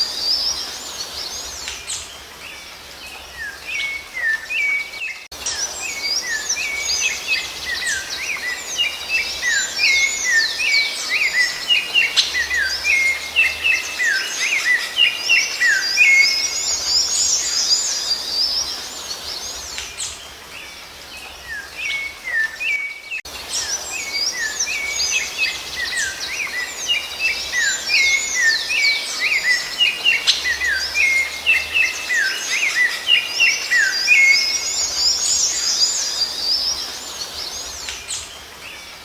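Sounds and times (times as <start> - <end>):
songbirds singing and chirping: 0.0 - 39.0.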